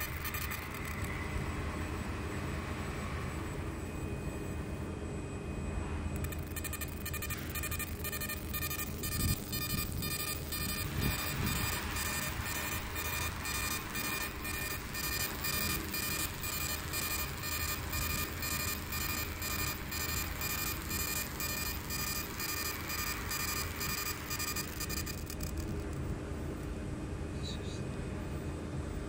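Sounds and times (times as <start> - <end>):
laser engraver buzzing and hiss: 0.0 - 4.6, 6.2 - 26.6
low steady hum: 0.0 - 29.0.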